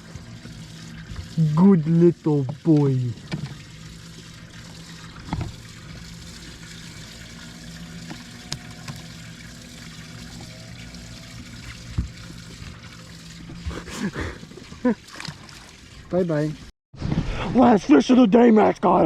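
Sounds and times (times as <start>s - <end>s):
water lapping at a boat: 0.0s - 16.7s.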